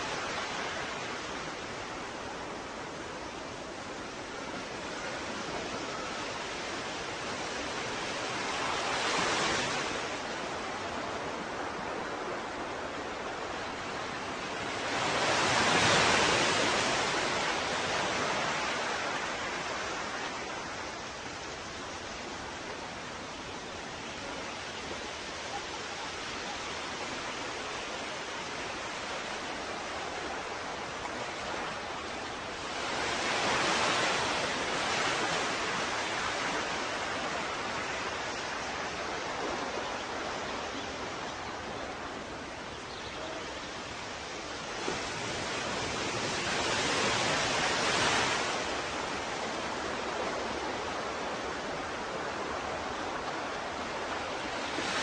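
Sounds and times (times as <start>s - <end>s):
hiss of surf: 0.0s - 55.0s
ocean waves washing onto shore: 0.0s - 55.0s.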